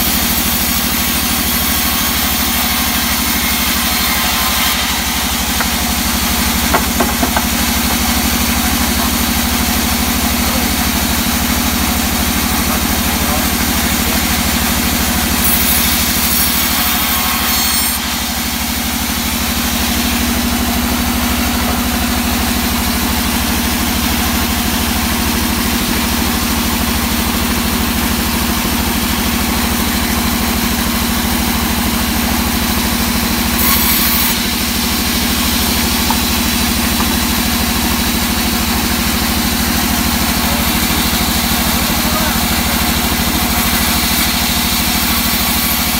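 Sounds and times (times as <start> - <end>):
saw blade cutting wood: 0.0 - 23.0, 31.8 - 45.9
band saw motor hum: 0.0 - 45.9.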